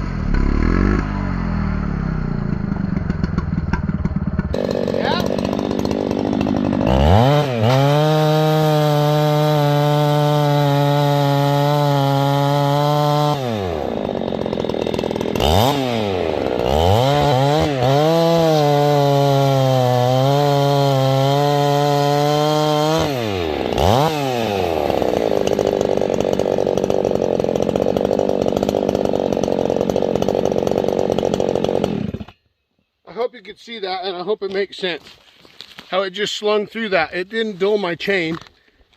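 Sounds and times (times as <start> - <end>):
chainsaw cutting wood: 0.0 - 32.4.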